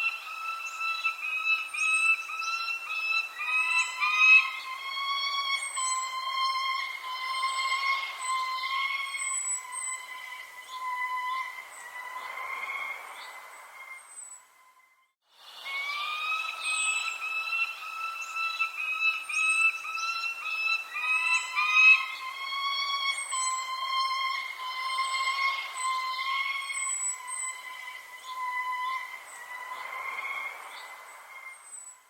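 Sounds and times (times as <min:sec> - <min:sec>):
high bird chirps: 0:00.0 - 0:12.4, 0:15.6 - 0:32.0.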